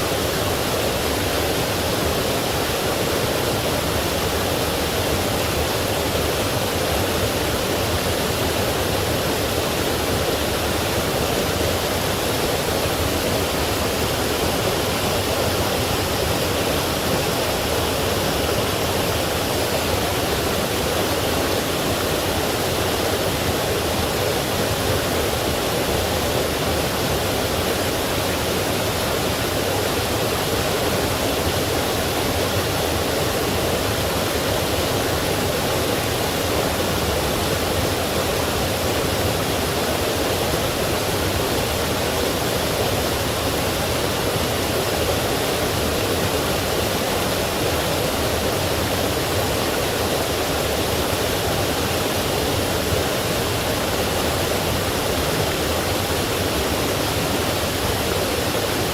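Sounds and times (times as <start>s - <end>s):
stream rushing over waterfalls: 0.0s - 58.9s.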